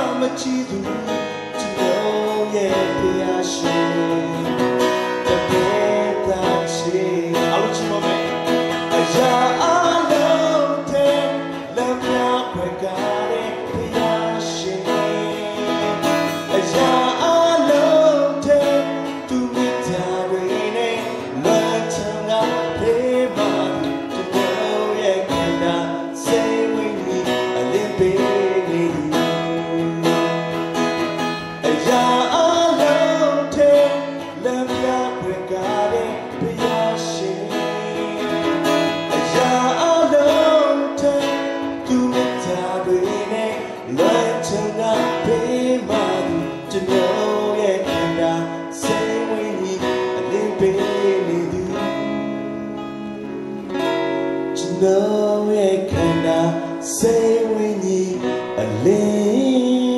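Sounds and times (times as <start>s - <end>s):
man singing into microphone: 0.0s - 53.6s, 54.4s - 59.9s
acoustic guitar strumming: 0.0s - 59.9s.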